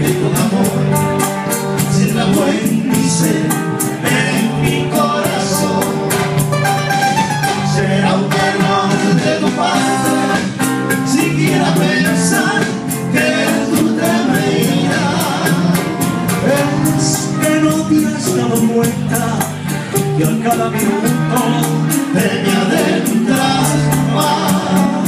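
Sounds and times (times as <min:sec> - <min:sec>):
acoustic guitars playing: 0:00.0 - 0:25.0
percussion beat: 0:00.0 - 0:25.0.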